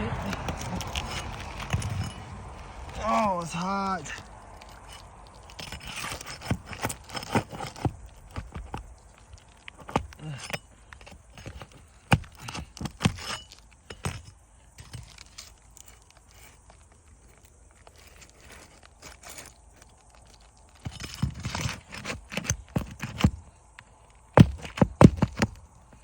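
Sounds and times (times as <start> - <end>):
hand tool scraping under shingles: 0.0 - 26.0.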